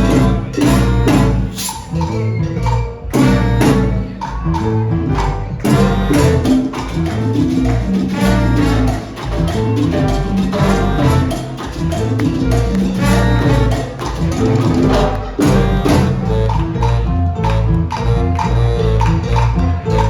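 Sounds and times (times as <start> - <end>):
latin percussion beat: 0.0 - 20.0
salsa band playing live: 0.0 - 20.0.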